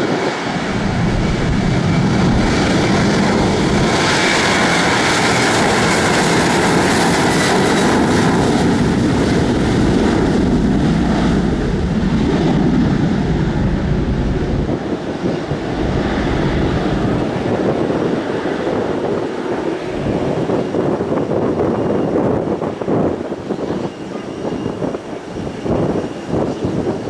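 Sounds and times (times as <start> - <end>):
airliner engines passing: 0.0 - 27.0
high engine whine: 0.0 - 27.0.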